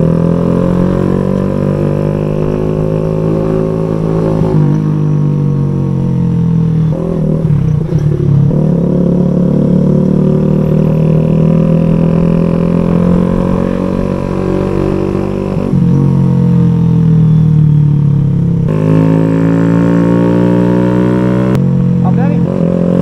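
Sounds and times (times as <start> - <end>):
motorcycle engine riding: 0.0 - 23.0.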